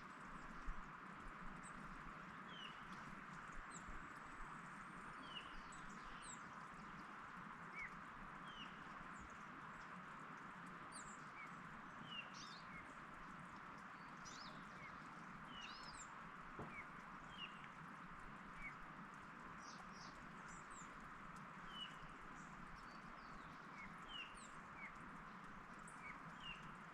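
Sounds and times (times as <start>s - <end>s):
faint steady background hiss: 0.0s - 26.9s.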